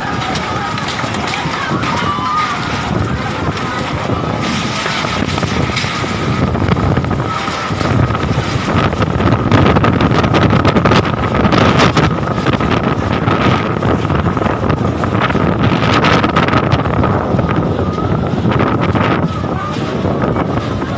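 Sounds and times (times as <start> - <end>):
knocks and rattles: 0.0 - 16.8
gusting wind on microphone: 0.0 - 20.9.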